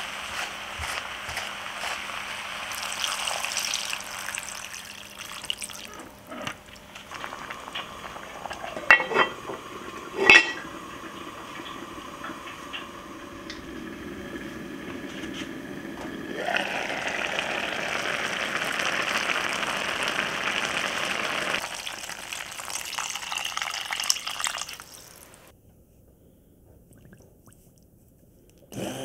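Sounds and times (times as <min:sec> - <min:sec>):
water pouring into a pot: 0:01.9 - 0:25.5.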